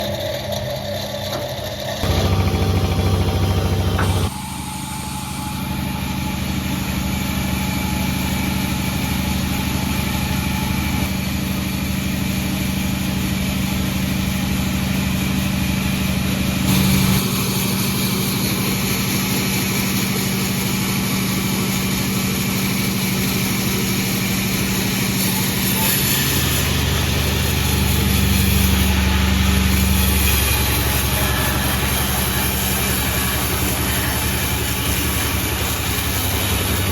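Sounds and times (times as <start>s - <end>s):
sawmill engine running: 0.0s - 36.9s.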